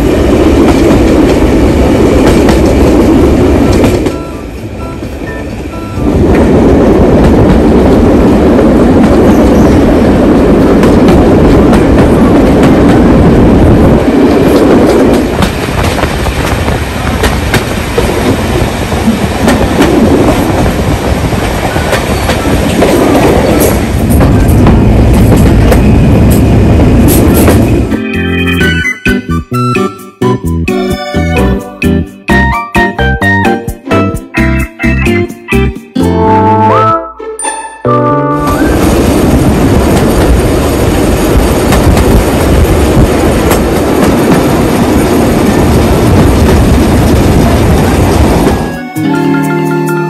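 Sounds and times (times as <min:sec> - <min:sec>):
train carriage rumble: 0:00.0 - 0:35.7, 0:38.3 - 0:49.9.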